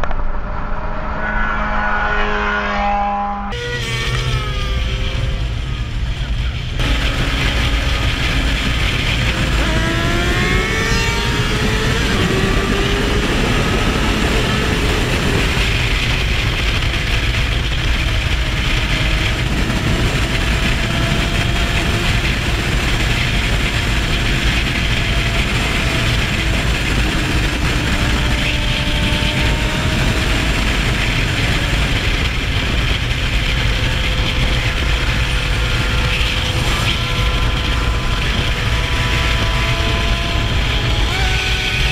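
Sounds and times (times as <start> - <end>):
motorcycle engine accelerating: 0.0 - 41.9
wind rush on microphone: 3.8 - 41.9.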